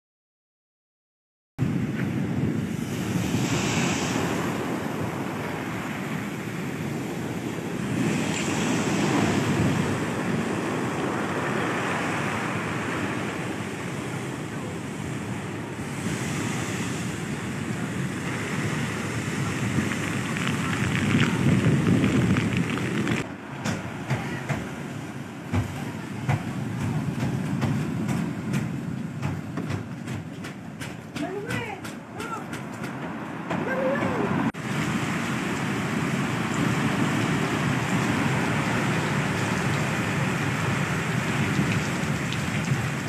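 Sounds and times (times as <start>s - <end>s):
surf crashing: 1.6s - 43.0s
wind buffeting microphone: 1.6s - 43.0s.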